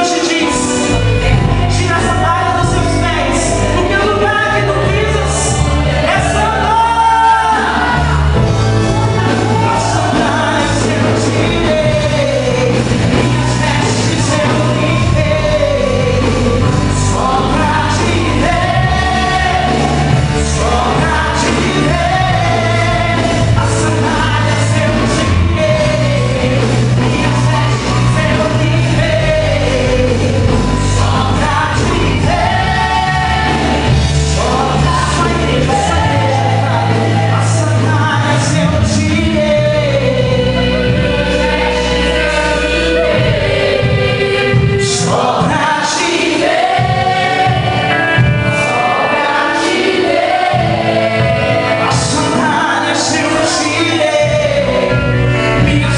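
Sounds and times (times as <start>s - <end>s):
gospel band playing: 0.0s - 55.9s
lead singer singing: 0.0s - 55.9s.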